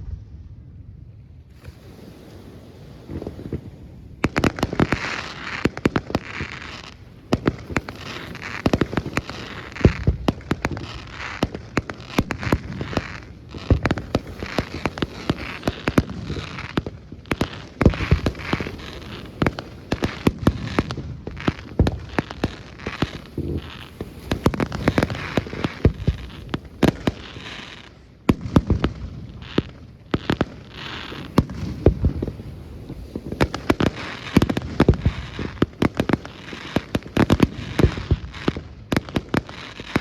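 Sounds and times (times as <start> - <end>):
fireworks bangs and crackling: 1.5 - 40.0.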